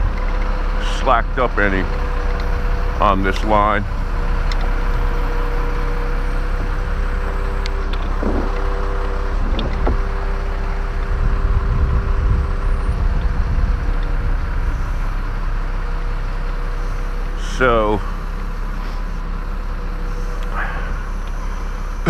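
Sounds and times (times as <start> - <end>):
lift engine humming and whining: 0.0 - 22.0.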